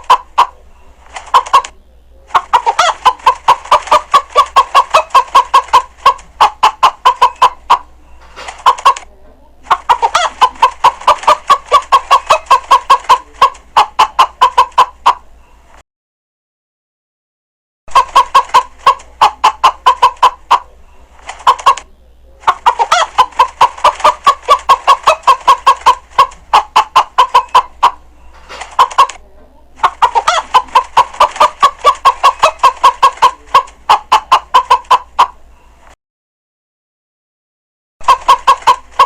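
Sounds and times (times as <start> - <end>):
chickens clucking: 0.0 - 15.8, 17.9 - 36.0, 38.0 - 39.0.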